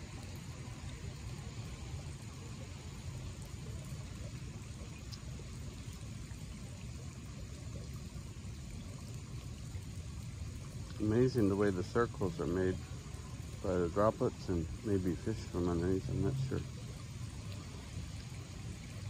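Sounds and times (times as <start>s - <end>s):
rain pattering on a pond: 0.0s - 19.0s.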